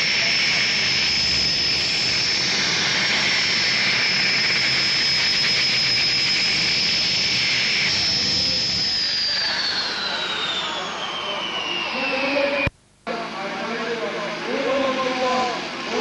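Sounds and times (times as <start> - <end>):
lower turbine whine: 0.0 - 16.0
rushing exhaust: 0.0 - 16.0
turbine high whine: 0.0 - 16.0.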